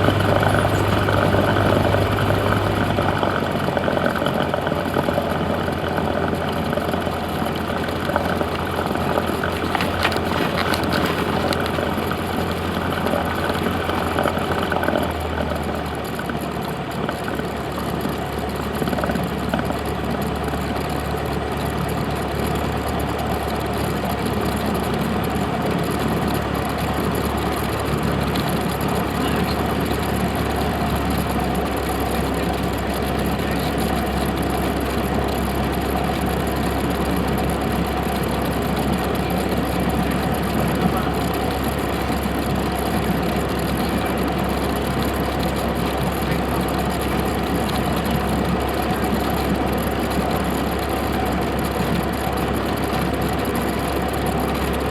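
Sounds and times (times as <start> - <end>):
small plane engine drone: 0.0 - 54.9.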